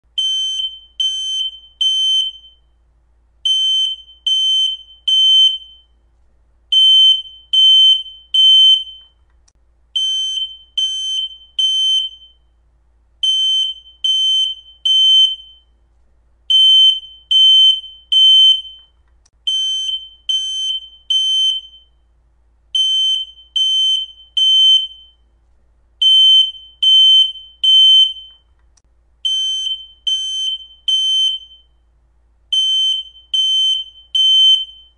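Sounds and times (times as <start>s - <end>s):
smoke alarm beeping: 0.2s - 2.8s, 3.5s - 6.0s, 6.7s - 9.2s, 10.0s - 12.5s, 13.2s - 15.8s, 16.5s - 22.0s, 22.8s - 25.3s, 26.0s - 28.6s, 29.2s - 31.8s, 32.5s - 34.9s.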